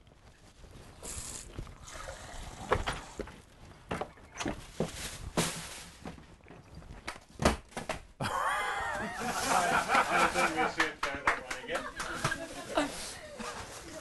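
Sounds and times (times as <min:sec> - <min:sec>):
footsteps: 0:00.0 - 0:08.1, 0:08.9 - 0:14.0.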